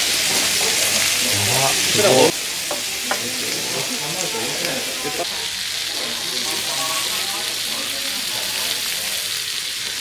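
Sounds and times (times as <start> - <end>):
steak sizzling: 0.0 - 10.0.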